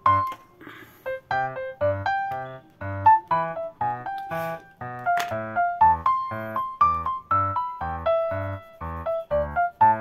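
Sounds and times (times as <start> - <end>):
keyboard melody: 0.0 - 10.0.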